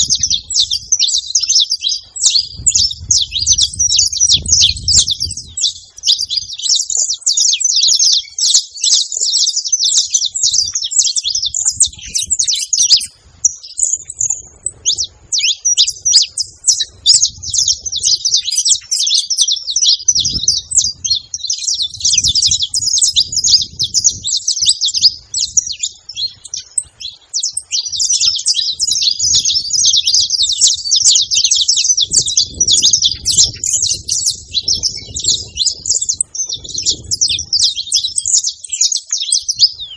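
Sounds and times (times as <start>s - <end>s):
finch chirping and trilling: 0.0s - 39.9s.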